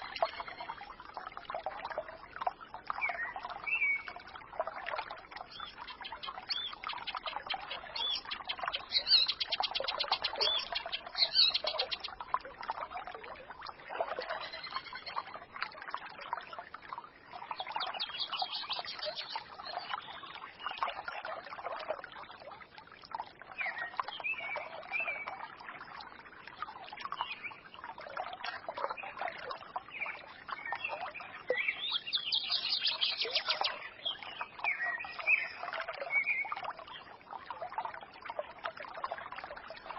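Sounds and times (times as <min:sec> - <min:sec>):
songbirds chirping: 0:00.0 - 0:22.1, 0:23.2 - 0:39.9
stream babbling: 0:00.0 - 0:39.9.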